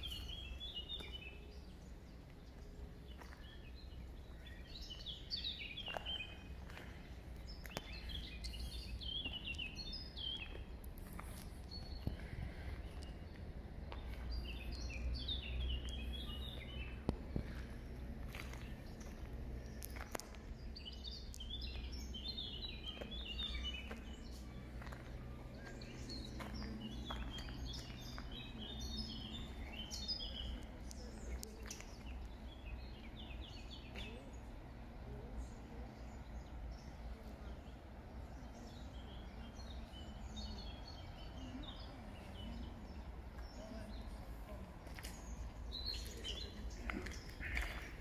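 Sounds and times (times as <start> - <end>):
low outdoor rumble: 0.0 - 48.0
small birds chirping: 0.0 - 48.0.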